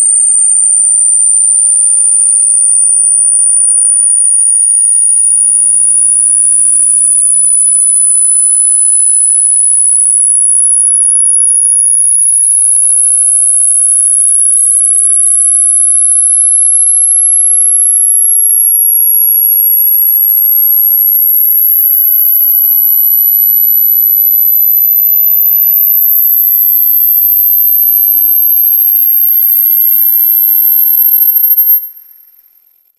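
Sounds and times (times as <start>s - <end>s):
high-pitched electronic sine tone rising: 0.0s - 32.9s.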